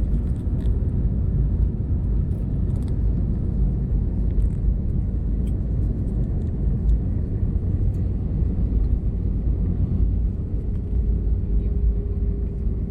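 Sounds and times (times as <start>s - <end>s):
vehicle rumbling in motion: 0.0s - 12.9s.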